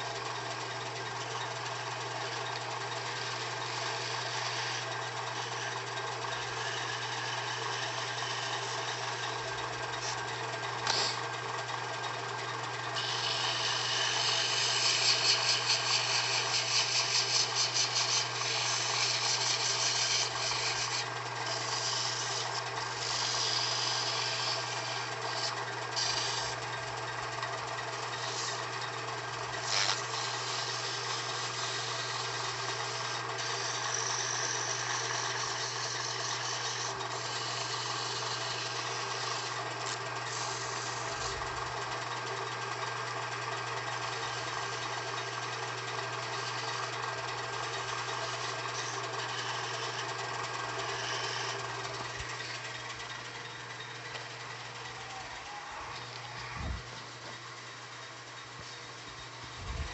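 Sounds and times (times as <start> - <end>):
wood lathe motor hum: 0.0 - 59.9
sandpaper rubbing spinning wood: 2.3 - 11.4, 12.9 - 42.4, 43.0 - 52.9.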